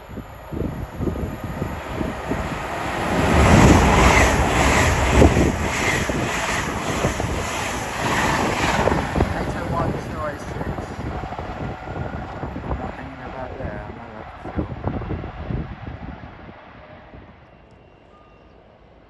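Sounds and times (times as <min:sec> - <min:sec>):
high-speed train passing: 0:00.0 - 0:17.4
wind buffeting microphone: 0:00.0 - 0:17.4.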